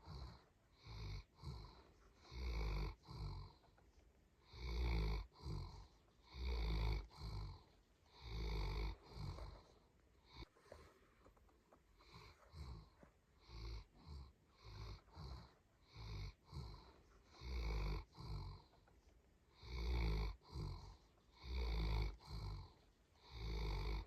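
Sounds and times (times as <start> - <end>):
dog snoring: 0.0 - 24.0.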